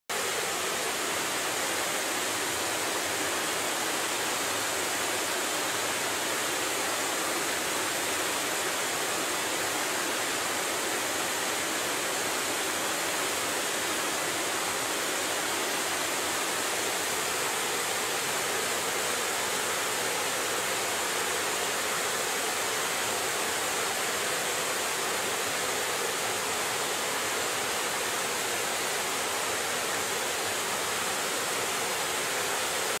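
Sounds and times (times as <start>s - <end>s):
waterfall rushing: 0.1s - 33.0s.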